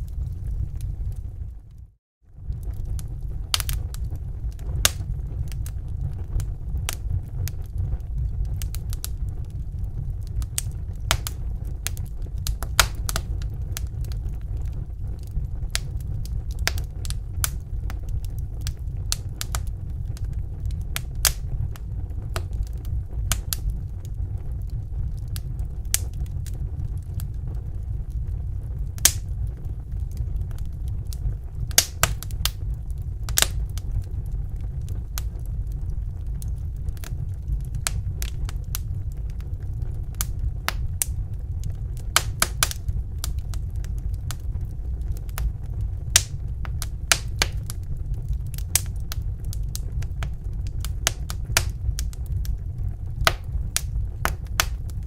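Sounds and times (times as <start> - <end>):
fire crackles and pops: 0.0 - 55.0
wood fire rumbling: 0.0 - 55.0.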